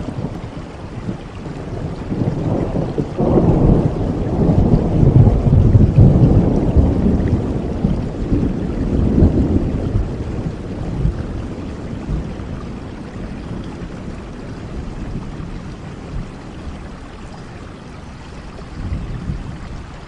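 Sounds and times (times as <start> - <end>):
rain: 0.0 - 20.0
rolling thunder: 0.0 - 20.0.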